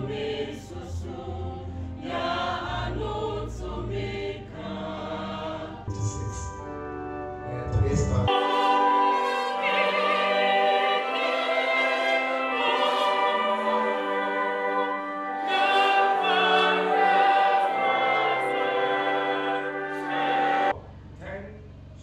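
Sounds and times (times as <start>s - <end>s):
choir singing sustained chords: 0.0s - 20.8s.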